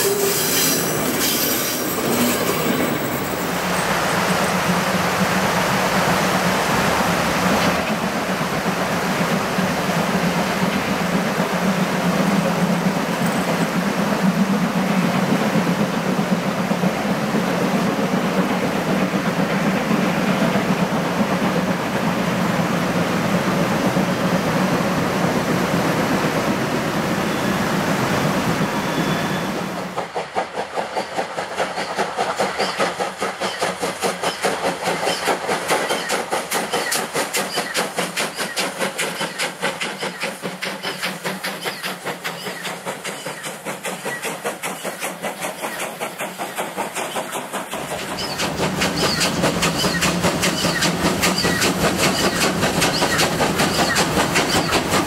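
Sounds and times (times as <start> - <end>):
distant train rumble: 0.0 - 55.0
steam locomotive exhaust chuffs: 0.0 - 55.0.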